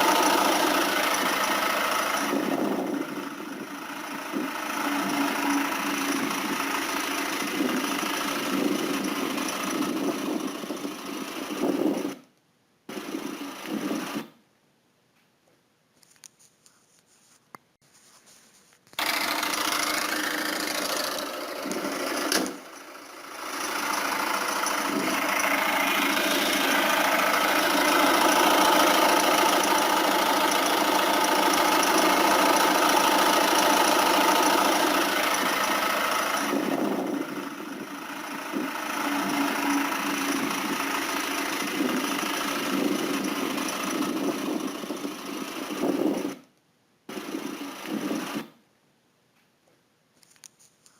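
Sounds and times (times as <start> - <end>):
diesel engine running: 0.0 - 12.2, 12.9 - 14.3, 19.0 - 46.4, 47.1 - 48.6.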